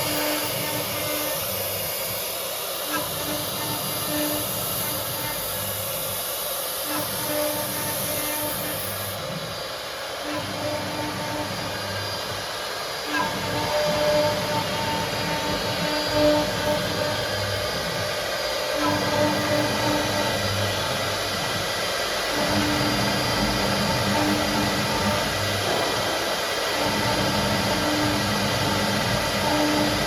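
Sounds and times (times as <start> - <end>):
cnc router whirring: 0.0 - 30.0.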